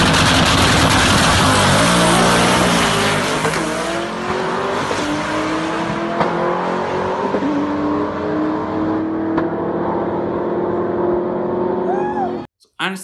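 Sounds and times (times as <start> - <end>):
drag car engine at full throttle: 0.0 - 11.8.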